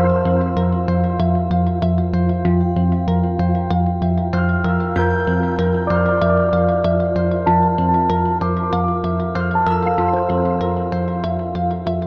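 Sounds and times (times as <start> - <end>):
calm new-age instrumental music: 0.0 - 12.0.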